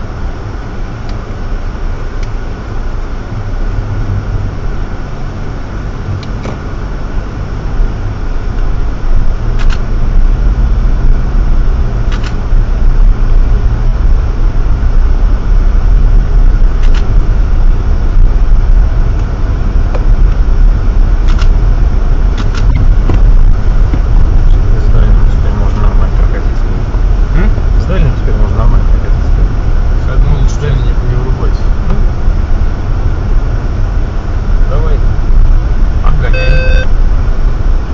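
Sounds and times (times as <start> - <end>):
engine and tyre rumble: 0.0 - 37.9.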